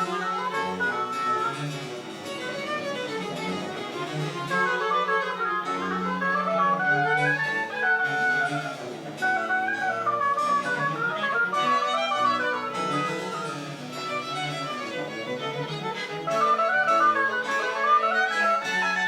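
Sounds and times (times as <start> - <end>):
baroque chamber music: 0.0 - 19.0.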